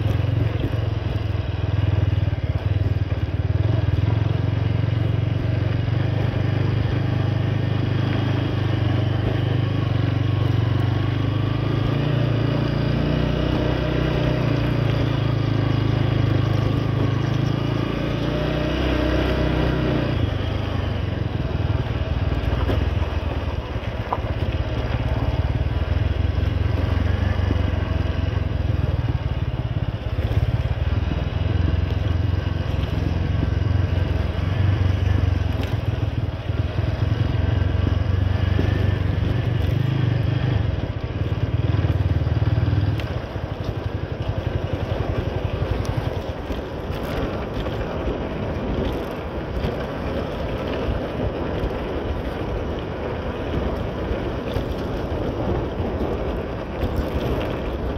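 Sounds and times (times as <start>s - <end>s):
motorcycle engine running: 0.0s - 57.9s
road and wind noise: 0.0s - 57.9s.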